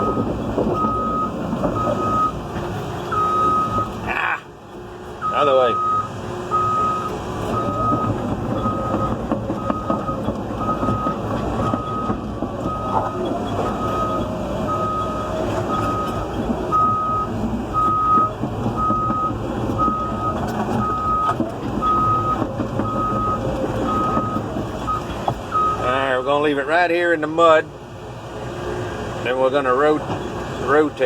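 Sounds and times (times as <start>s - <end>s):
excavator travel alarm beeping: 0.0s - 26.2s
diesel engine and tracks: 0.0s - 31.0s.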